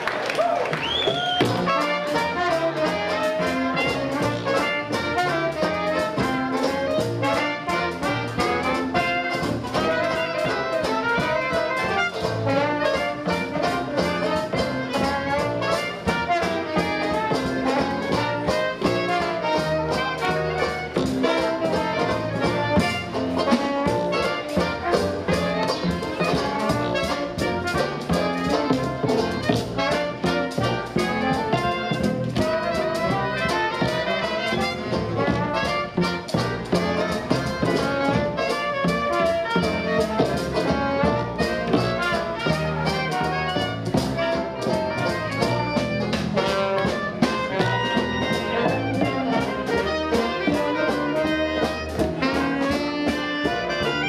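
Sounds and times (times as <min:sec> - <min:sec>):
horns carrying a jazz tune: 0:00.0 - 0:54.0
swinging drum beat: 0:00.0 - 0:54.0.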